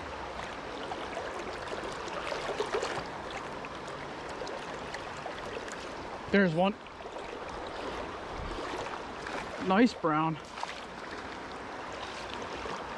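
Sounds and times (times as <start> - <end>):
stream running water: 0.0 - 12.9.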